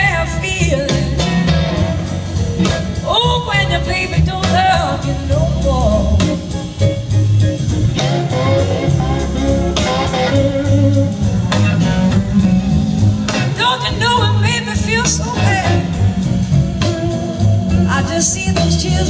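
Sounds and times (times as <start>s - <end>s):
bass guitar: 0.0s - 19.0s
electric guitar: 0.0s - 19.0s
steady drum beat: 0.0s - 19.0s.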